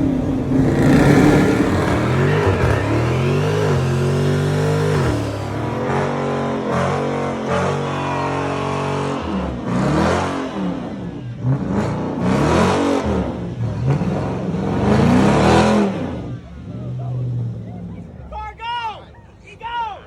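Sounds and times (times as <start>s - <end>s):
muscle car engine revving: 0.0s - 17.6s.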